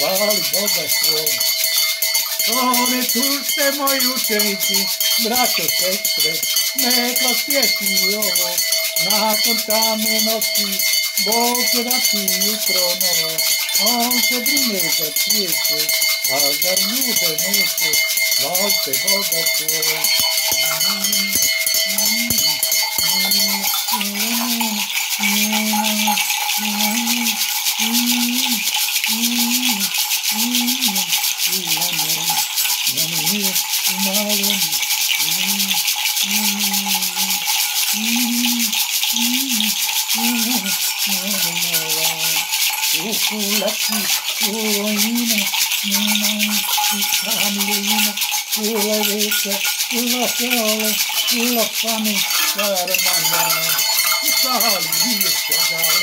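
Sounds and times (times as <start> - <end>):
man chanting: 0.0 - 1.6, 2.4 - 56.0
bell ringing: 0.0 - 56.0
gourd rattles shaken: 0.0 - 56.0.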